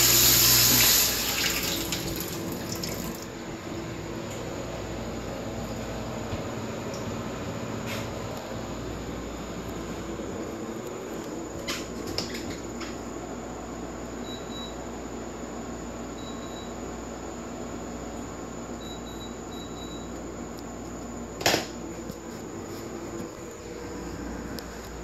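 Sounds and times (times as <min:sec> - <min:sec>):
air conditioner running: 0:00.0 - 0:25.0.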